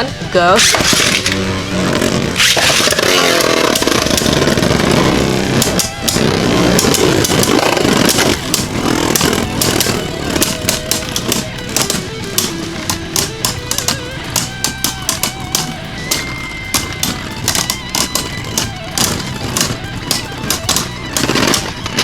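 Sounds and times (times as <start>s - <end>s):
spinning tops whirring and scraping: 0.0s - 22.0s
spinning tops clicking as they collide: 0.6s - 22.0s.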